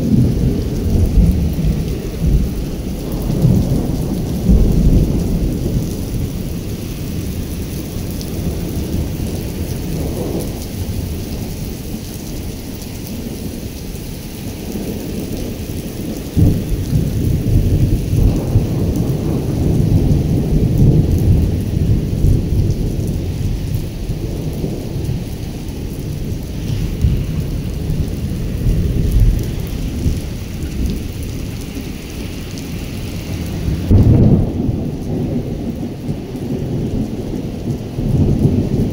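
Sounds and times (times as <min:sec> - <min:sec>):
heavy rain on pavement: 0:00.0 - 0:38.9
low thunder rumble: 0:00.0 - 0:38.9.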